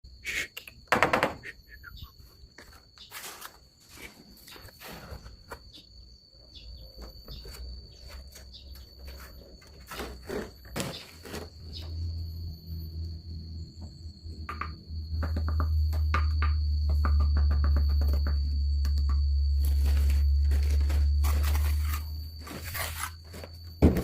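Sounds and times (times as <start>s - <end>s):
high insect-like tone: 0.1s - 24.0s.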